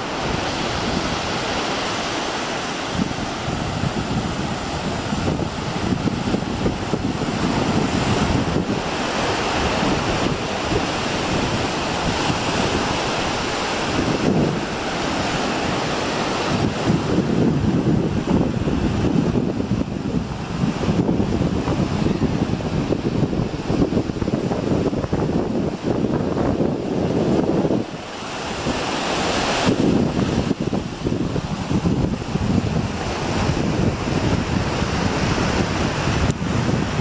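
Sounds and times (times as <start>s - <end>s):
ocean surf breaking: 0.0s - 37.0s
wind rumbling on microphone: 0.0s - 37.0s.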